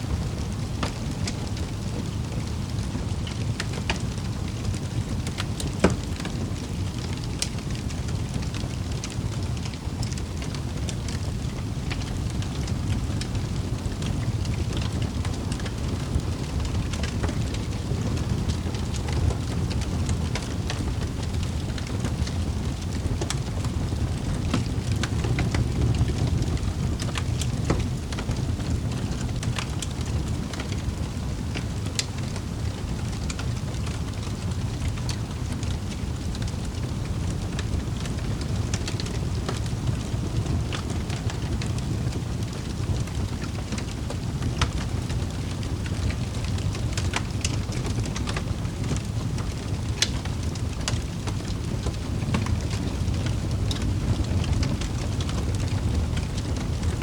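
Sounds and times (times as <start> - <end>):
fire flames rumbling: 0.0 - 57.0
wood fire crackling and popping: 0.0 - 57.0.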